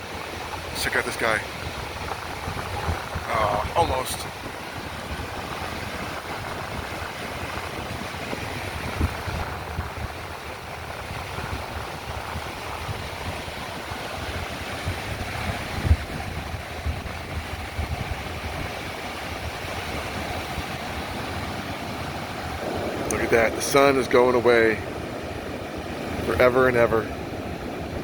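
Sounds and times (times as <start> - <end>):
ocean surf: 0.0 - 28.0
wind buffeting microphone: 0.0 - 28.0.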